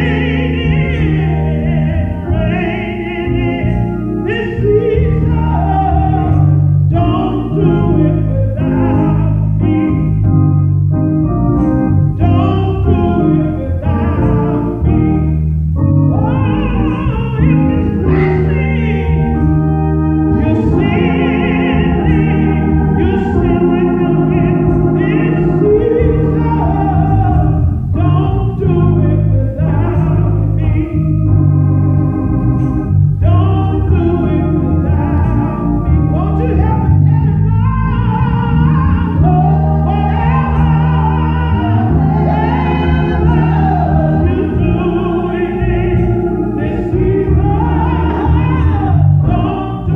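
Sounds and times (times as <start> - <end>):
organ chords: 0.0 - 49.9.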